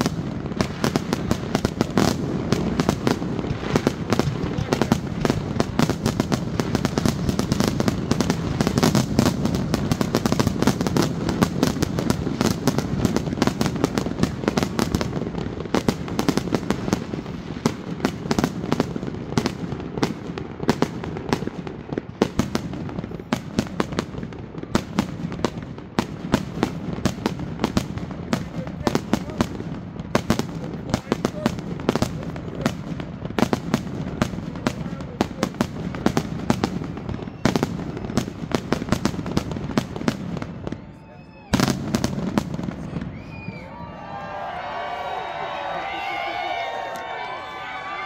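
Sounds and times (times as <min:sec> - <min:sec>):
fireworks bangs and crackle: 0:00.0 - 0:48.0.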